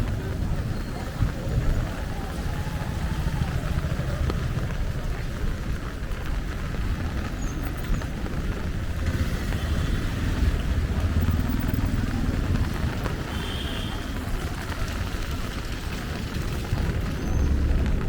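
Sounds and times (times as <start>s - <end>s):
motorbike and car engines passing: 0.0s - 18.0s
rain hiss on wet road: 0.0s - 18.0s.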